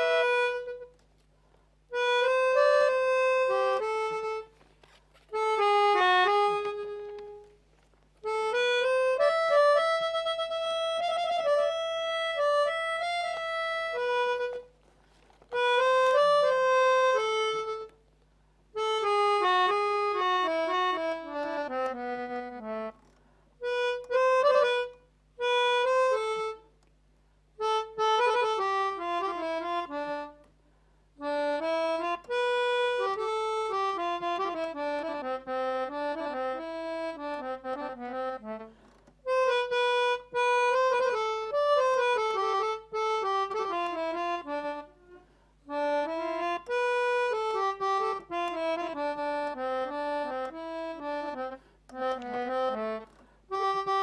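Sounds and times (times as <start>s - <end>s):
melodica melody: 0.0s - 1.0s, 1.8s - 18.1s, 18.7s - 26.8s, 27.6s - 30.5s, 31.2s - 54.0s.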